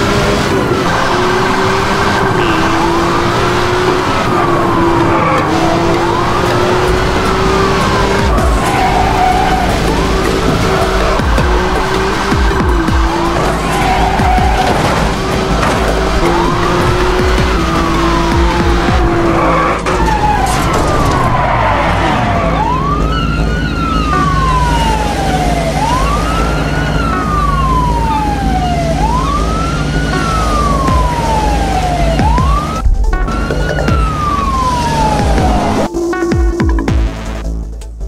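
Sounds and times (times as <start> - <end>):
low drone: 0.0 - 36.2
police siren wailing: 0.0 - 37.3.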